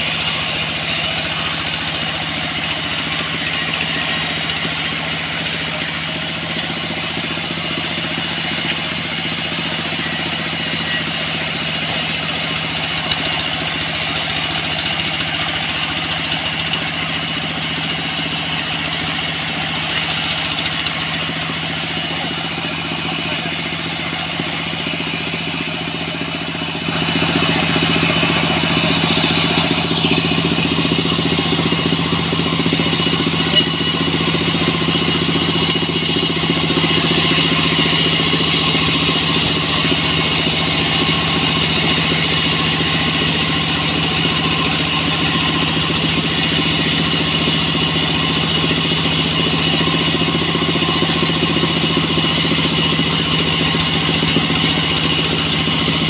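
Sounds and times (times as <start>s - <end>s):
portable sawmill ripping a log: 0.0s - 56.0s.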